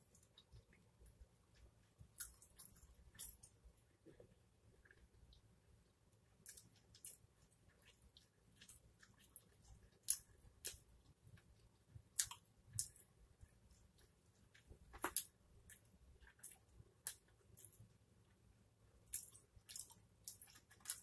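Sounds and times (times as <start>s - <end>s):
chewing with mouth clicks: 0.0s - 4.2s, 6.4s - 17.8s, 19.1s - 21.0s.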